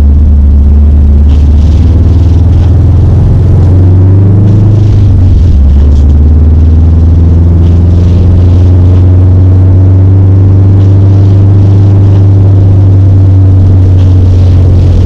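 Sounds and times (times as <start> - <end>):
car engine droning while driving: 0.0 - 15.0.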